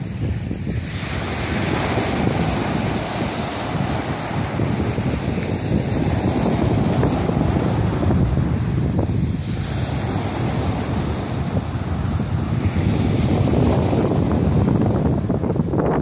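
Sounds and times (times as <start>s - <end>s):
waves washing up beach: 0.0s - 16.0s
wind buffeting microphone: 0.0s - 16.0s.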